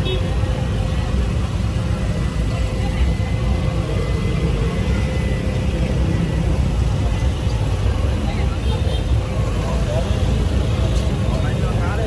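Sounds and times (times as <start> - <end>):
people talking: 0.0 - 12.0
traffic rumble: 0.0 - 12.0.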